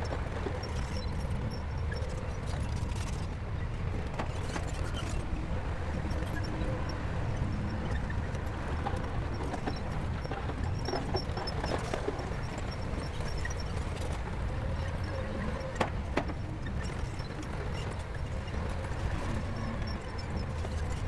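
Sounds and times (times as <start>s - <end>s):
bulldozer diesel engine rumbling: 0.0s - 21.0s.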